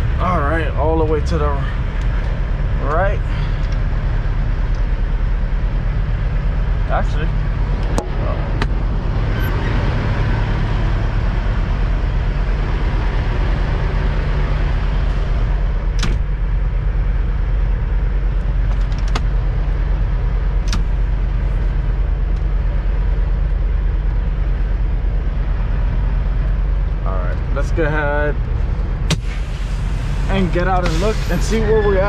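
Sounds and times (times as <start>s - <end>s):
truck diesel engine idling: 0.0s - 18.7s, 19.3s - 32.0s.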